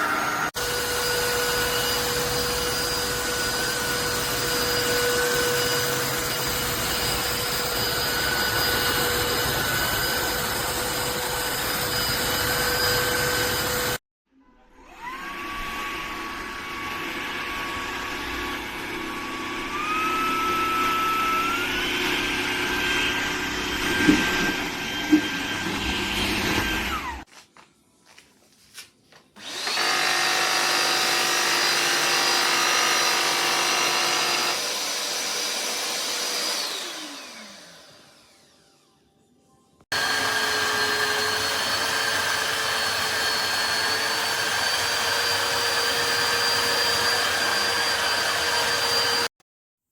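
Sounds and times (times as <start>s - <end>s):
floor cleaner motor whine: 0.0s - 14.0s, 14.8s - 27.3s, 29.4s - 31.6s, 34.2s - 39.3s, 39.9s - 49.3s.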